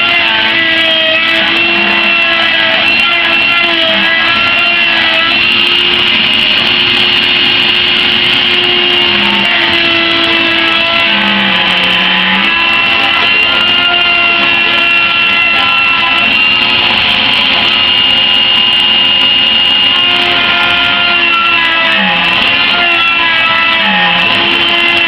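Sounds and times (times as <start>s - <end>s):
router carving wood: 0.0s - 25.0s.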